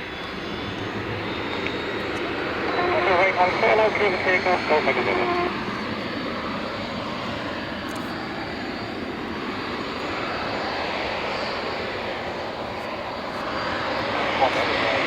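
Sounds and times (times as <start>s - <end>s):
aircraft engine running: 0.0s - 15.0s.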